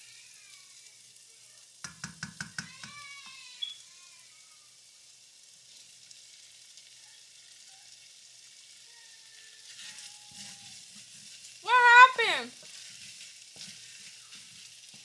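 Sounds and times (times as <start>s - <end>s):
rice sizzling in oil: 0.0s - 15.0s.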